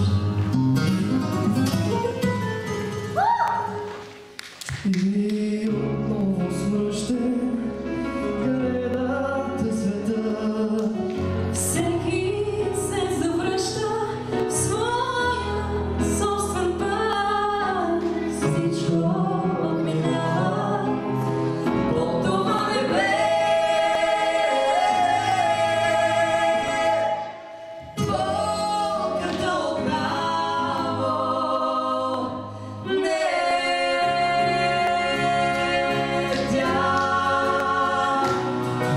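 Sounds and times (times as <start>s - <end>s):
musical accompaniment: 0.0s - 38.9s
man and woman singing duet: 4.7s - 38.9s.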